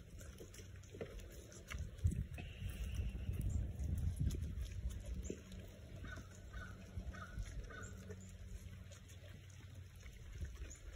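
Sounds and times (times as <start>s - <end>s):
goats chewing corn: 0.0s - 10.9s.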